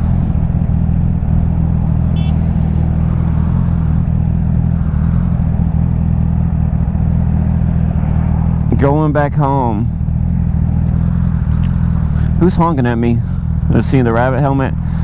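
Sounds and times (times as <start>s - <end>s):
wind rush: 0.0s - 12.4s
motorcycle engine running: 0.0s - 15.0s.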